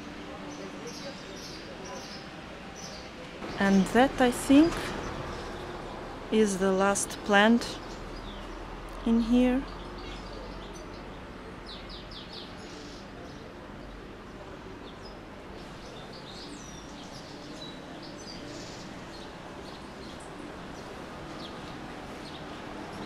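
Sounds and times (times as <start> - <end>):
neighbourhood background noise: 0.0 - 23.0.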